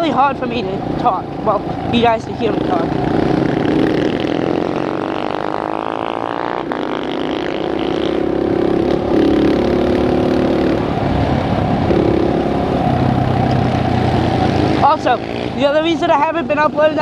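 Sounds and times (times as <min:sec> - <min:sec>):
dirt bike engine running: 0:01.4 - 0:17.0.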